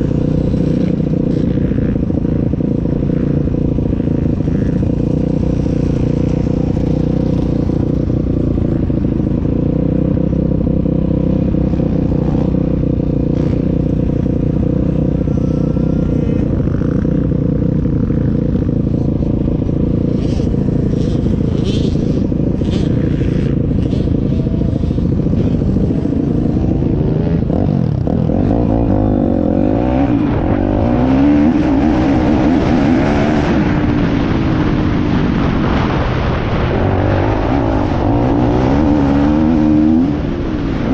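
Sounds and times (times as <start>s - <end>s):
motorbike engine running: 0.0s - 40.9s
wind rushing over microphone: 0.0s - 40.9s.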